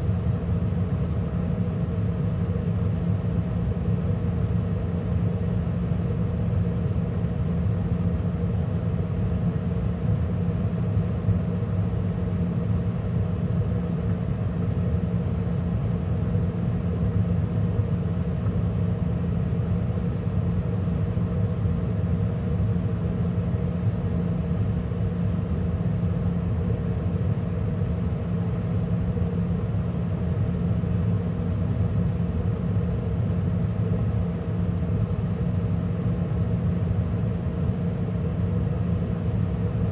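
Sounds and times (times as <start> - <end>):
gas furnace humming: 0.0 - 39.9.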